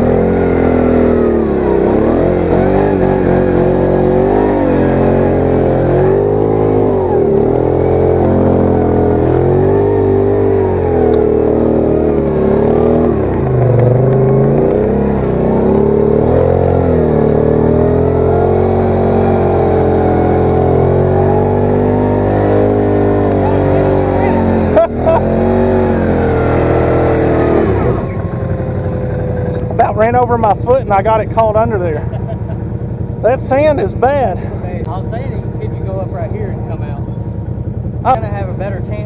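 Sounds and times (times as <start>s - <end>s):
quad engine revving: 0.0s - 39.0s.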